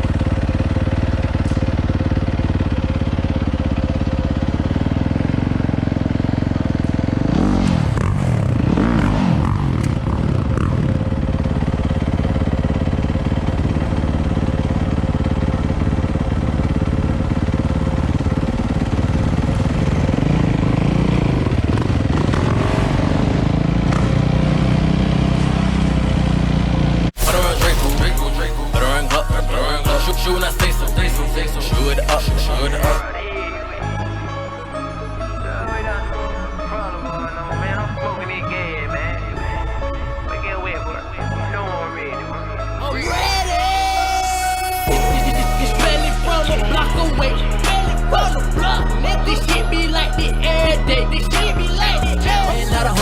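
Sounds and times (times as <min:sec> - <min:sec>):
dirt bike engine revving: 0:00.0 - 0:33.1, 0:42.9 - 0:53.0.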